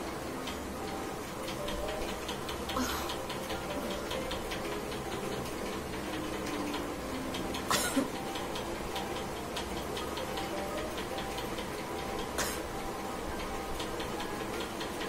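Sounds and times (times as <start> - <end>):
faint steady ticking: 0.0 - 15.0.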